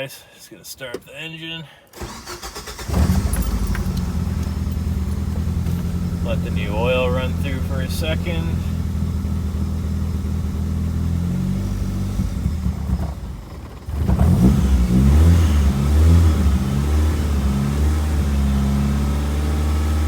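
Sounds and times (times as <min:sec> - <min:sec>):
car engine running: 0:02.0 - 0:20.0.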